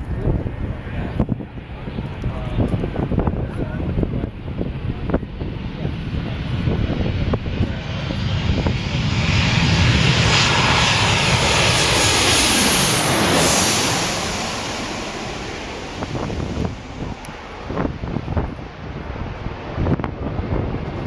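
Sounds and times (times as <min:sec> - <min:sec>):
jet airliner flying past: 0:00.0 - 0:21.0.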